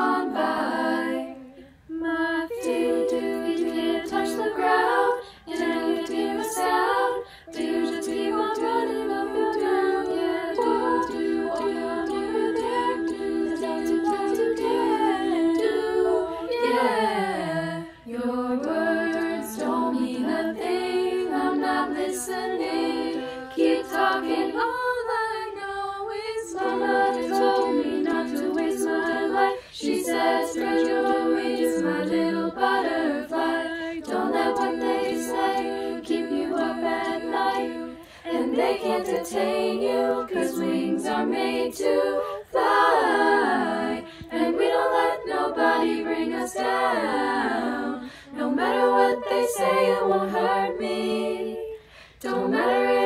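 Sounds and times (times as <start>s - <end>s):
women singing in harmony: 0.0s - 53.0s.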